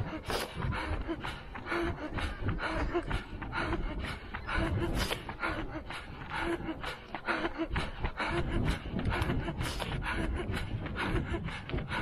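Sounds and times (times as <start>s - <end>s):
runner breathing hard: 0.0s - 12.0s.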